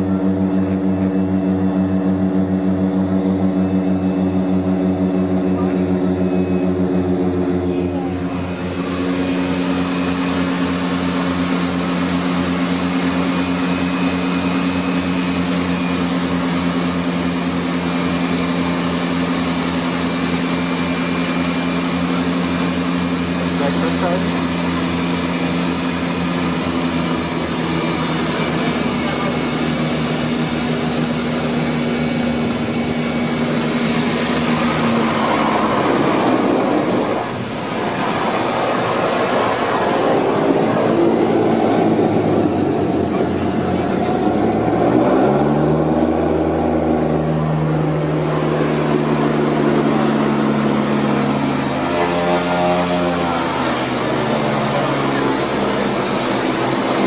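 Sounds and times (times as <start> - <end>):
turboprop engines running: 0.0 - 57.0.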